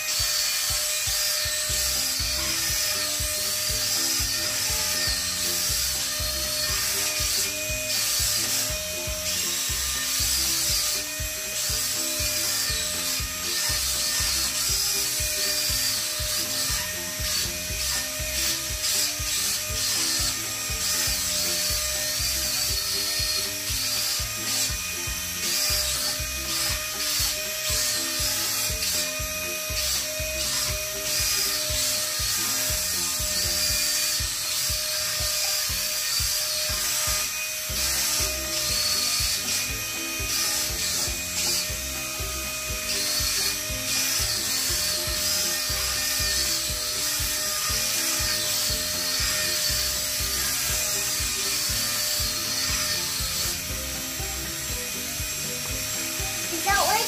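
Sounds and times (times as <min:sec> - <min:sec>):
background music with bass: 0:00.0 - 0:57.0
toy car fan whirring: 0:00.0 - 0:57.0.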